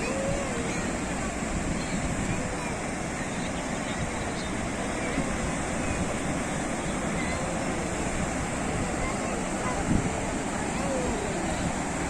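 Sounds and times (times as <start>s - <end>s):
sea waves breaking on shore: 0.0s - 12.0s.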